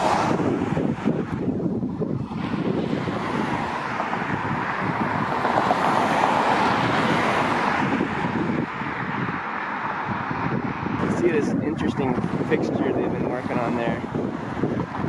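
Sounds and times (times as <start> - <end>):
road traffic: 0.0 - 15.0
vehicle passing: 0.0 - 15.0
wind on microphone: 0.0 - 15.0.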